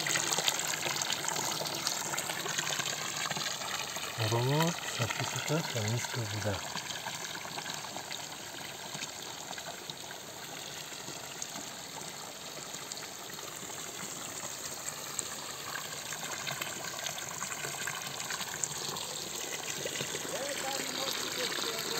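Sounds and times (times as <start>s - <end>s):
water running from fountain spout: 0.0s - 21.9s.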